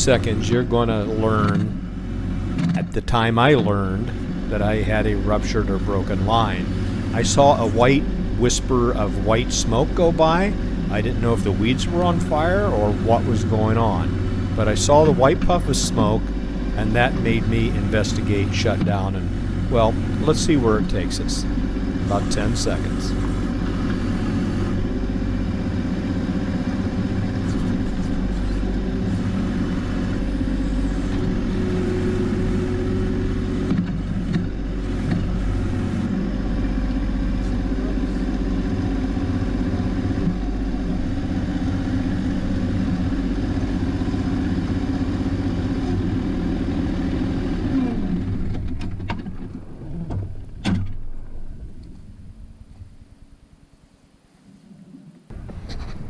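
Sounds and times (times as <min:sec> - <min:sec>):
tractor diesel engine running: 0:00.0 - 0:53.3.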